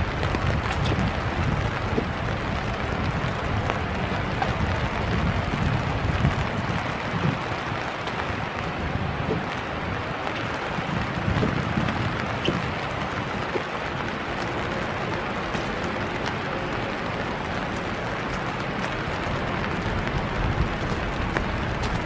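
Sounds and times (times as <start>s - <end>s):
rain drops ticking: 0.0s - 22.0s
rain falling: 0.0s - 22.0s
wind rumble on microphone: 0.0s - 22.0s.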